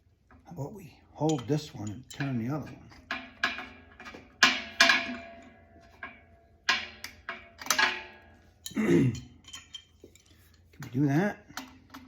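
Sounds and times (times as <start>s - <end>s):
wrenches clinking on metal pipe: 1.2s - 12.0s.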